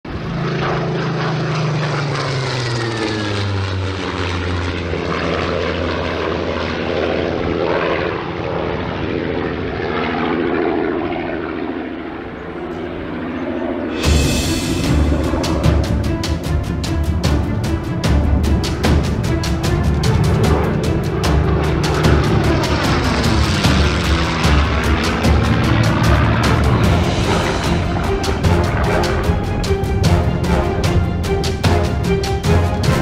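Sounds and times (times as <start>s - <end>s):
propeller plane engine droning: 0.0s - 33.0s.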